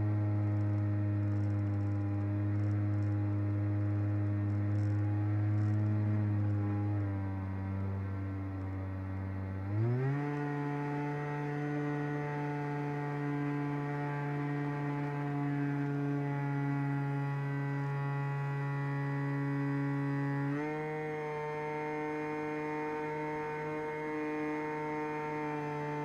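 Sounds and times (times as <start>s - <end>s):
electric motor and propeller whining: 0.0s - 26.0s.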